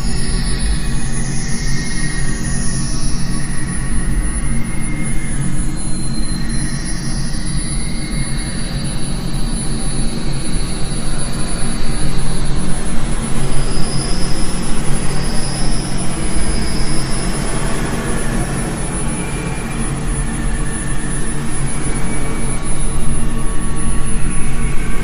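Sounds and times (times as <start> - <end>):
low humming tones: 0.0 - 25.0.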